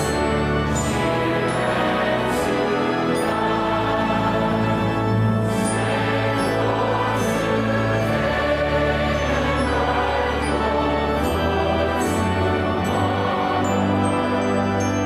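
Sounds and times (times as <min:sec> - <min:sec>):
choir singing sustained notes: 0:00.0 - 0:15.0
instrumental accompaniment: 0:00.0 - 0:15.0.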